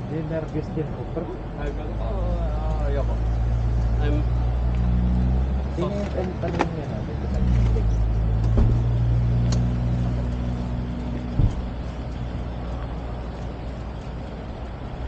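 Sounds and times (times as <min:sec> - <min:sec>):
engine idling hum: 0:00.0 - 0:15.0
quiet engine rumble: 0:00.0 - 0:15.0.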